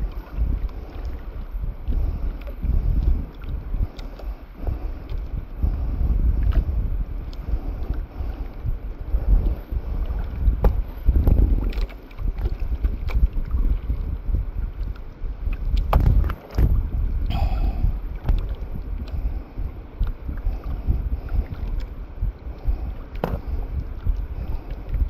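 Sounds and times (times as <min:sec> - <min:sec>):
water lapping against boat: 0:00.0 - 0:25.0
wind buffeting microphone: 0:00.0 - 0:25.0.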